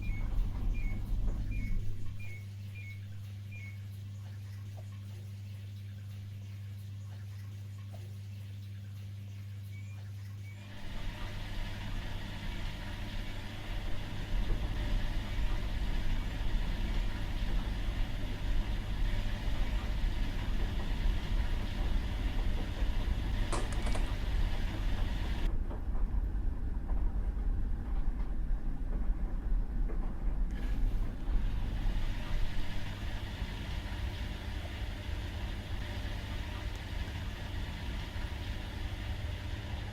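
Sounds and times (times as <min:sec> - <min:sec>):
steady low hum: 0:00.0 - 0:39.9
washing machine running: 0:00.0 - 0:39.9.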